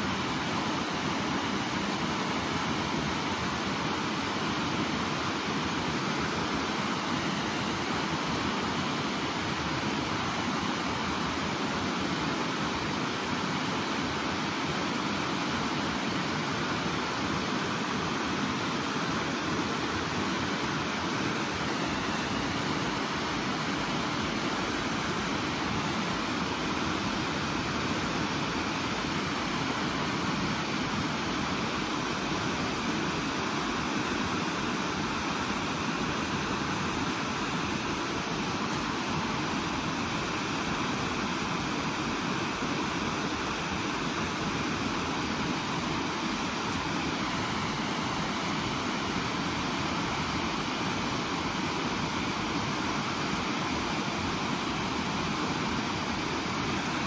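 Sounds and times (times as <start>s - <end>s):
river rushing over rapids: 0.0s - 57.0s.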